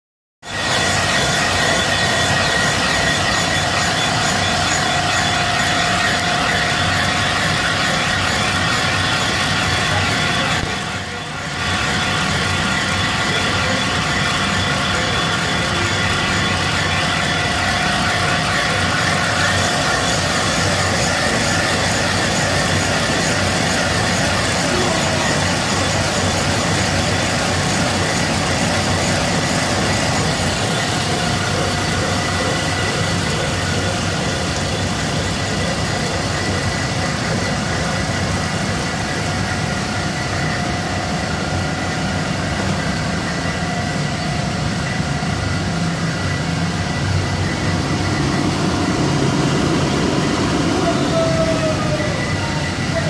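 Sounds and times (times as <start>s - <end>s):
steady whining tones: 0.4s - 53.0s
woodworking machinery running: 0.4s - 53.0s.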